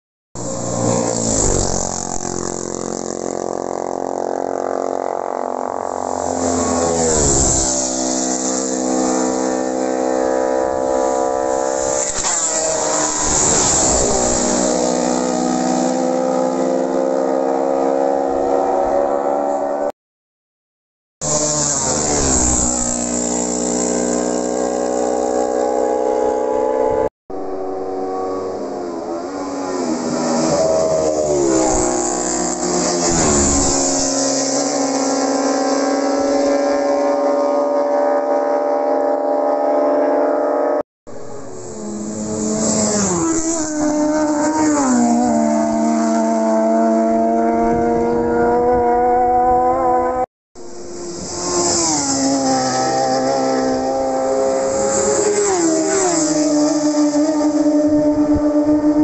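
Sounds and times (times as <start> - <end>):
racing motorcycle engine: 0.4 - 19.9, 21.2 - 59.0
racing motorcycle passing by: 0.4 - 19.9, 21.2 - 59.0.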